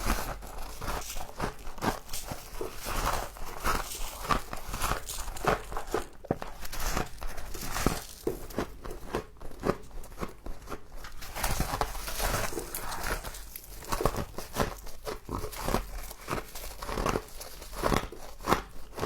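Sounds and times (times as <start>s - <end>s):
crunchy chewing of frost: 0.0s - 19.0s.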